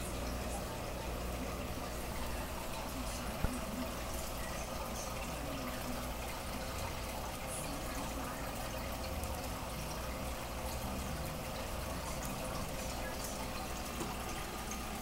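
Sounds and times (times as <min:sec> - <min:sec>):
aquarium water bubbling: 0:00.0 - 0:15.0
steady low hum: 0:00.0 - 0:15.0.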